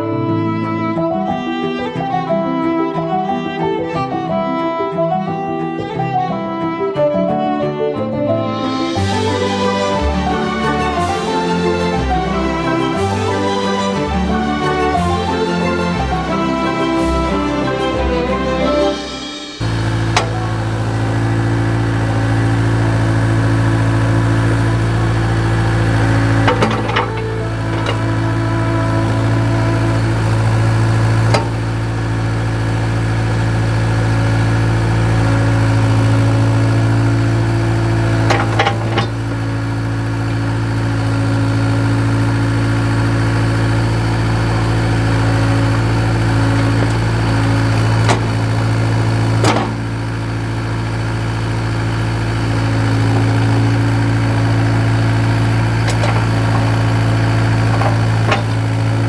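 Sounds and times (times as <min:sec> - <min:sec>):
engine running steadily: 0:08.7 - 0:59.0.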